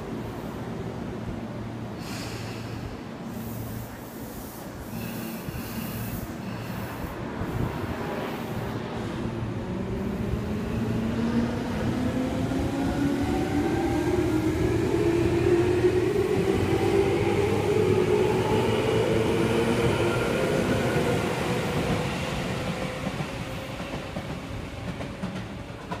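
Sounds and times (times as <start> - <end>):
rail and wheel running noise: 0.0 - 26.0.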